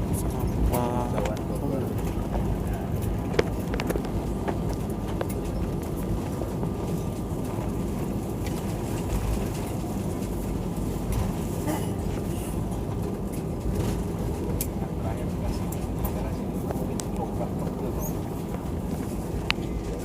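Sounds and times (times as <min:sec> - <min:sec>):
low rumble of airliner engines: 0:00.0 - 0:20.0.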